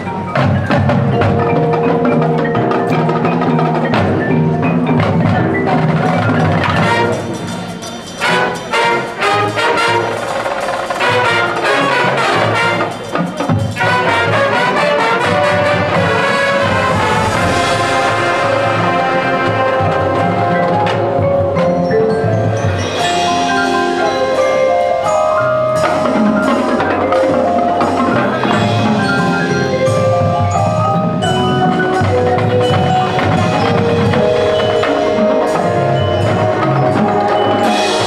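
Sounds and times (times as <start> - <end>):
drums: 0.0 - 38.0
mallet percussion notes: 0.0 - 38.0
brass chords: 0.1 - 38.0.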